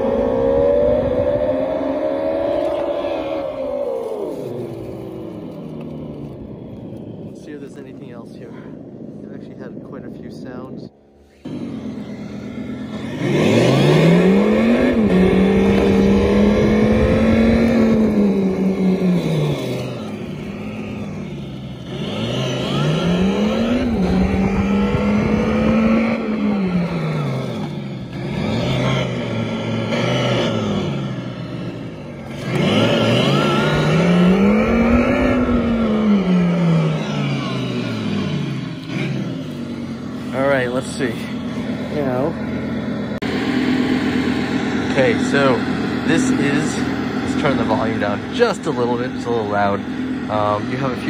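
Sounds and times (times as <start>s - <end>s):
simulated engine sound from speaker: 0.0s - 51.0s.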